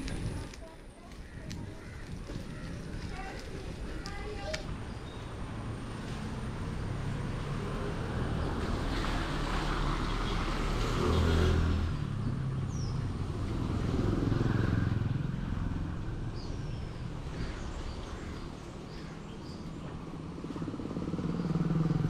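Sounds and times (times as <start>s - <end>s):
low traffic rumble: 0.0s - 22.0s
vehicles passing close by: 0.0s - 22.0s.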